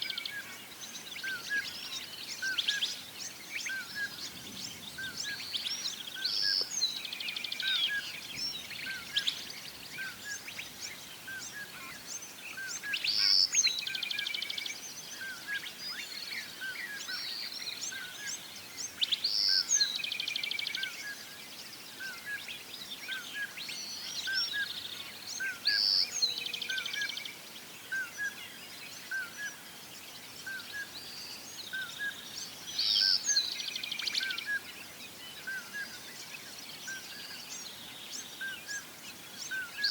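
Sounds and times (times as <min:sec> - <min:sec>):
bird song with rapid trill: 0:00.0 - 0:39.9.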